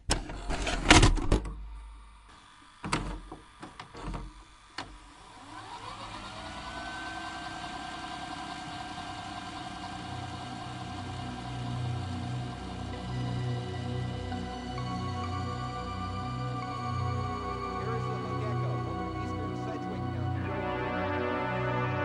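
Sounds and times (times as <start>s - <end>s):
rising whine and steady hum: 0.2s - 22.0s.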